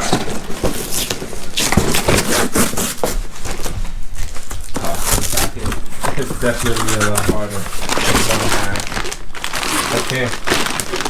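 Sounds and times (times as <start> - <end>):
cardboard scraping and rustling: 0.0 - 11.0.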